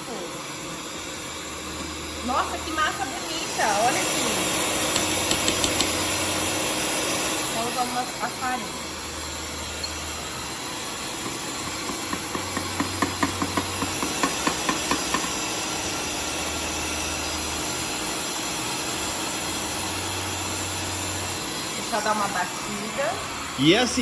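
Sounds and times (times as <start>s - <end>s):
stand mixer whisking batter: 0.1s - 24.0s.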